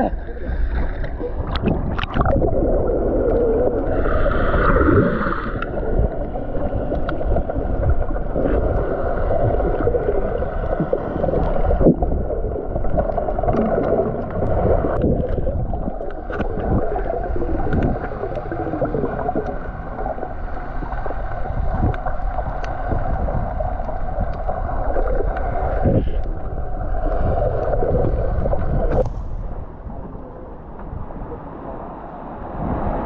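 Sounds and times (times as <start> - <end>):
underwater rumbling and gurgling: 0.0 - 33.0.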